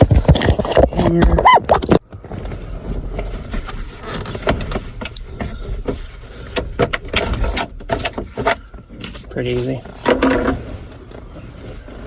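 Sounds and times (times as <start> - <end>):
light handling clicks and knocks: 0.4 - 11.3.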